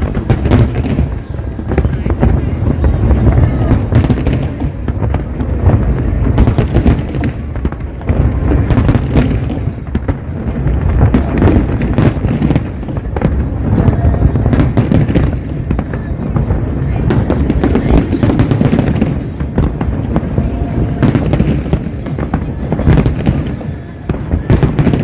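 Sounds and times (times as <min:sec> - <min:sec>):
fireworks booms and cracks: 0:00.0 - 0:25.0.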